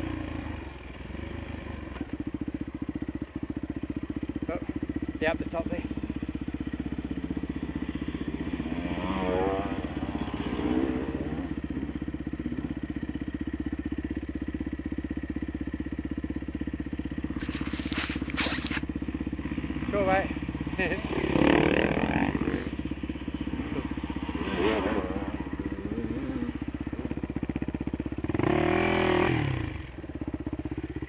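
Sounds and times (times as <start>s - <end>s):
dirt bike engine idling: 0.0s - 31.0s.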